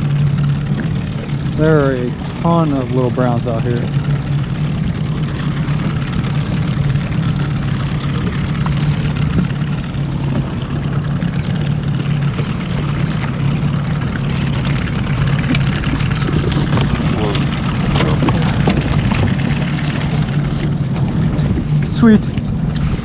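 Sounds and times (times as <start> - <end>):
outboard motor humming: 0.0 - 23.0
water noise: 0.0 - 23.0.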